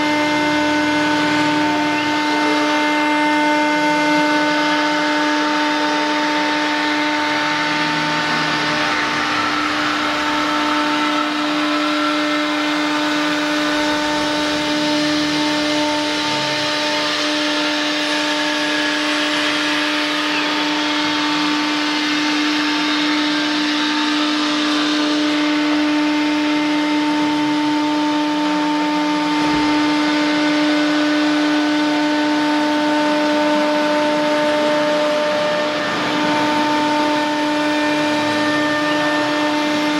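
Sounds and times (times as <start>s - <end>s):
cnc router spindle whine: 0.0s - 39.9s.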